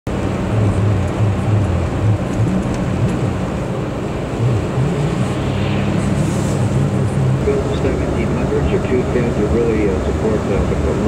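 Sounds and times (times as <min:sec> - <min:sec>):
car engine and road noise: 0:00.0 - 0:11.0
low hum shifting pitch: 0:00.1 - 0:10.2.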